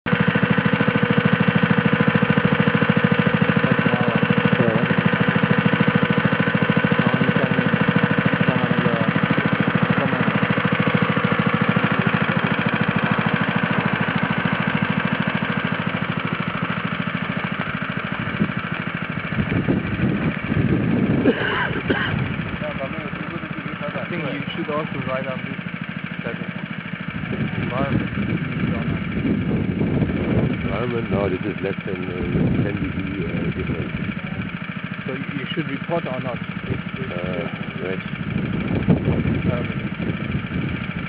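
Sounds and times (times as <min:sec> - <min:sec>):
plate compactor engine pulsing: 0:00.1 - 0:41.0.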